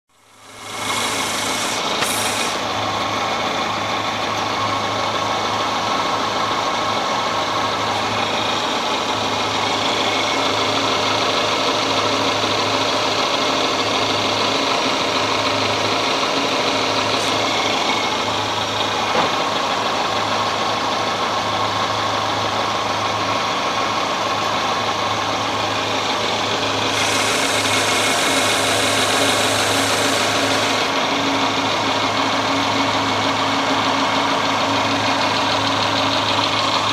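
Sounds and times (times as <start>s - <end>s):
car engine idling: 0.2s - 36.9s.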